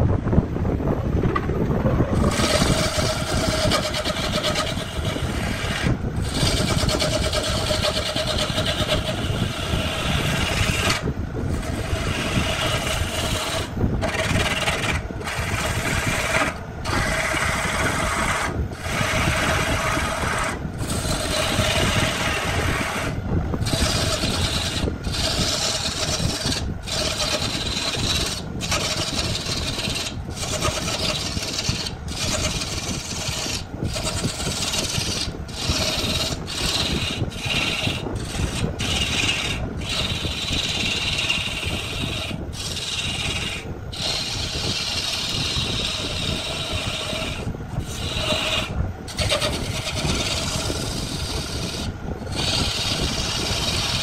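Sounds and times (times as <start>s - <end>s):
lathe humming: 1.2s - 54.0s
gouge scraping wood: 2.1s - 54.0s.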